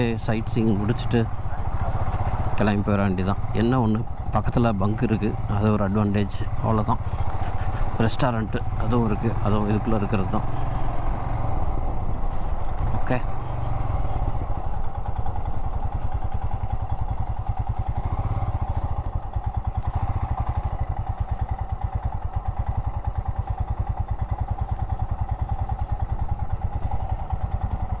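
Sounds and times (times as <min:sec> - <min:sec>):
motorcycle engine running at low revs: 0:00.0 - 0:28.0.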